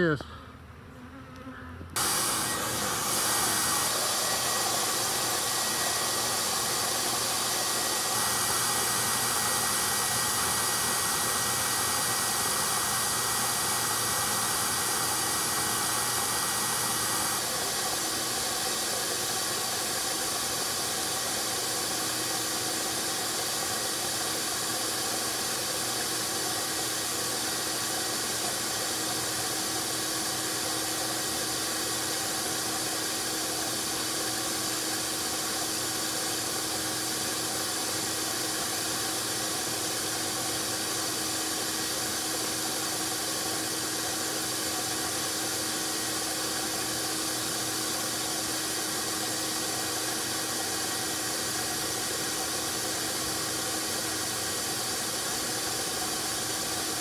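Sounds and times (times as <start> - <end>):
rush of air through hose: 2.0 - 57.0
vacuum motor running: 2.0 - 57.0.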